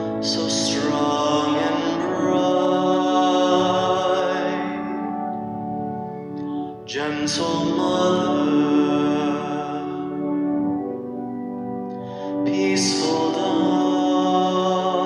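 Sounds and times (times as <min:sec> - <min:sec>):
slow hymn singing: 0:00.0 - 0:15.0.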